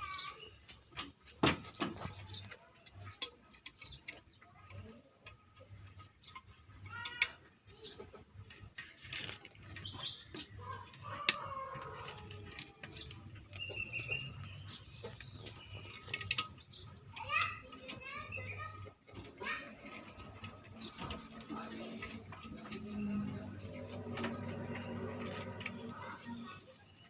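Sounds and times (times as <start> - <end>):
sharp clicks and knocks: 0.7 - 26.7.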